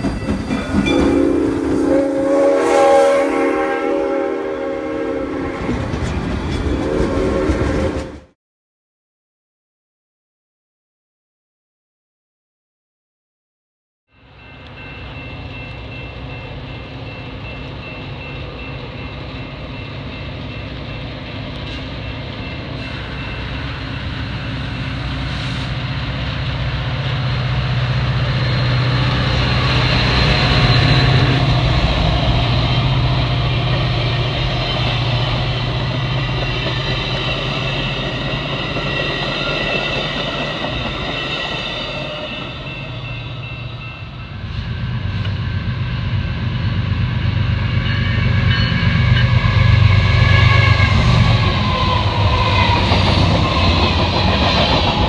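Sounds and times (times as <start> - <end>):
diesel locomotive engine drone: 0.0 - 8.4, 14.1 - 55.0
train rail noise: 0.0 - 8.4, 14.1 - 55.0.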